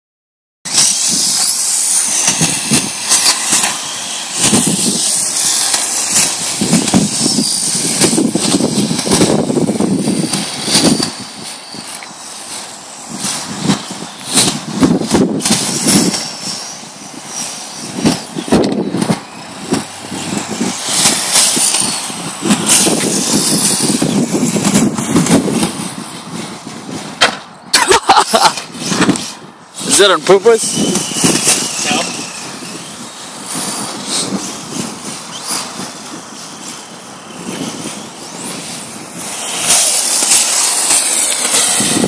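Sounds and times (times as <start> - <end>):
rc car motors whining: 0.7 - 42.0
tyre scrub on asphalt: 0.7 - 42.0.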